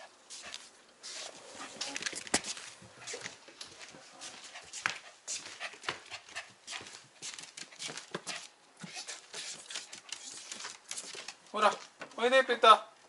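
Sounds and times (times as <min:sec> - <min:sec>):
puppy paws pattering on floor: 0:00.0 - 0:12.2.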